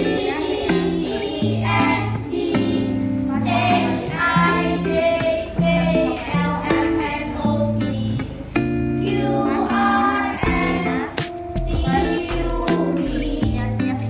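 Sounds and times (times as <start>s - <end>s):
child singing: 0.0s - 14.0s
instrumental backing with bass: 0.0s - 14.0s.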